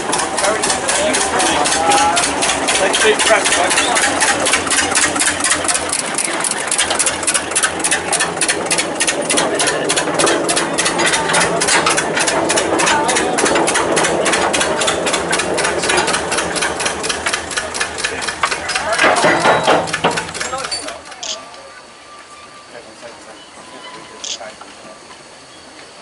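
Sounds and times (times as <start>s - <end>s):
diesel locomotive engine under load: 0.0s - 26.0s.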